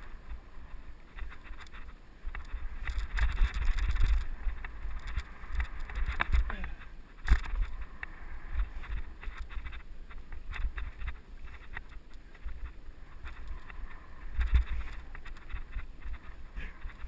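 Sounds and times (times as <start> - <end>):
bike clicks and rattles: 0.0 - 17.0
tyres running over trail: 0.0 - 17.0.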